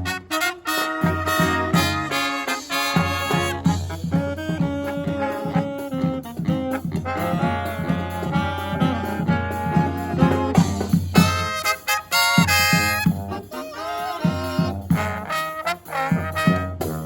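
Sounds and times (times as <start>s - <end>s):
marching brass band playing: 0.0s - 17.0s
steady drum beat: 0.0s - 17.0s.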